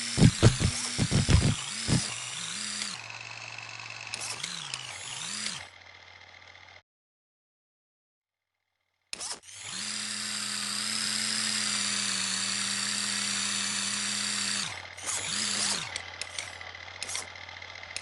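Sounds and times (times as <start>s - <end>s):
electric toy motor whining: 0.0s - 6.8s, 9.2s - 18.0s.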